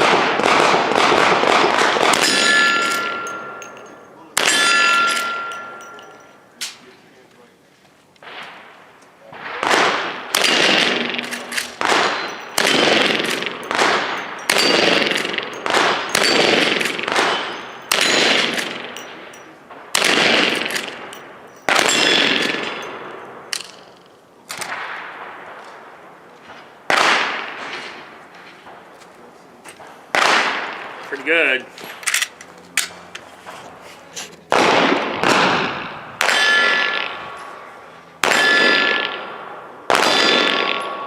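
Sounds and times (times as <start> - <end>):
gunshots with long echo: 0.0 - 6.2, 8.2 - 23.9, 24.5 - 28.9, 30.1 - 31.5, 34.5 - 41.0.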